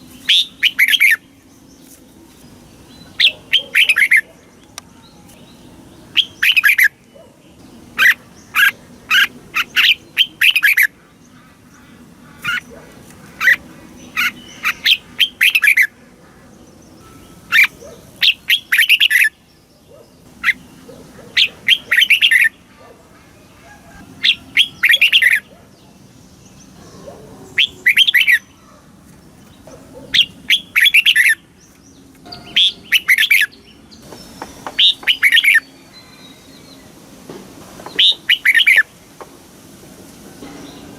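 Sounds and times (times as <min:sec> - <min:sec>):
bird singing warbling phrases: 0:00.0 - 0:28.8, 0:29.4 - 0:37.0, 0:37.9 - 0:38.9.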